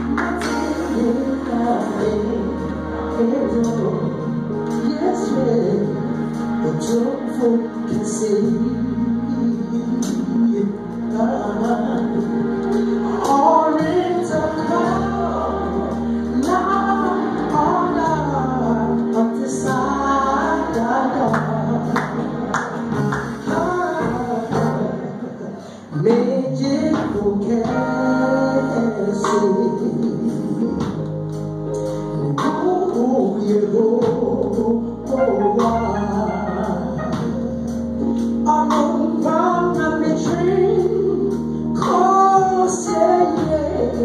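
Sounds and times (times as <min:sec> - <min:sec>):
trumpet playing gospel melody: 0:00.0 - 0:25.2, 0:26.0 - 0:44.0
backing track with bass line: 0:00.0 - 0:44.0.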